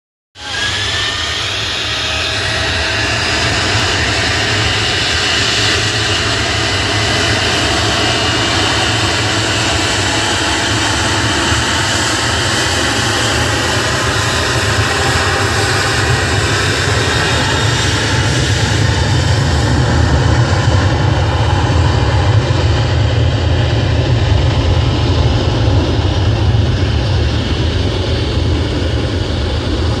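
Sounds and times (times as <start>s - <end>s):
jet engines with high whine: 0.4s - 30.0s.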